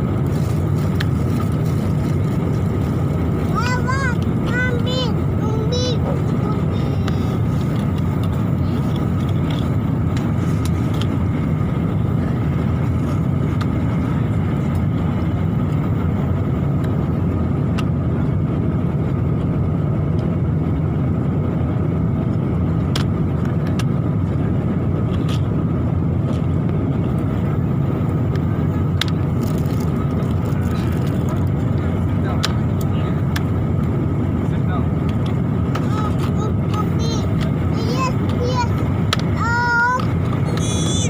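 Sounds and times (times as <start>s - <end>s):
airliner cabin engine drone: 0.0s - 41.0s.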